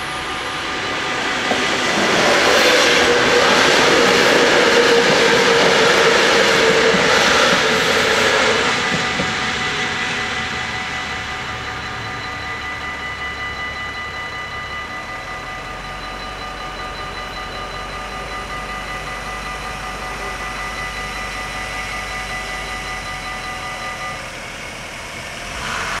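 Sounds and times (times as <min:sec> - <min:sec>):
level crossing warning bells: 0:00.0 - 0:26.0.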